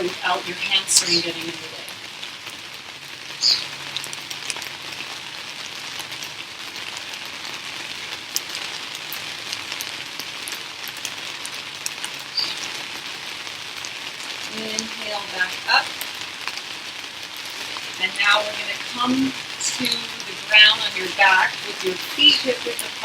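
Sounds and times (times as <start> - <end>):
raindrops ticking: 0.0 - 23.0
steady rain falling: 0.0 - 23.0.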